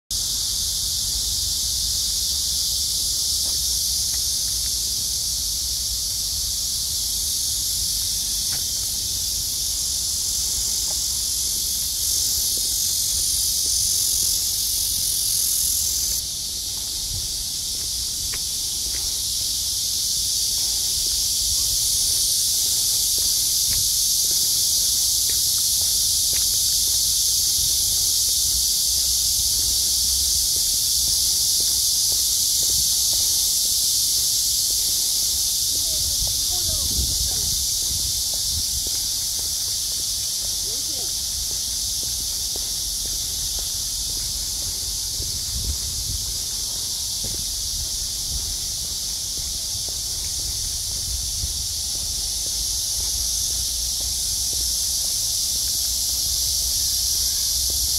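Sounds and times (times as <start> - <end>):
cicadas buzzing: 0.1 - 57.9.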